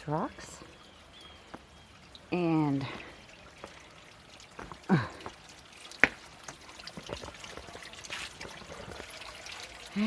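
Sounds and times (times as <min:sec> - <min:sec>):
creek water trickling over rocks: 0:00.0 - 0:10.0.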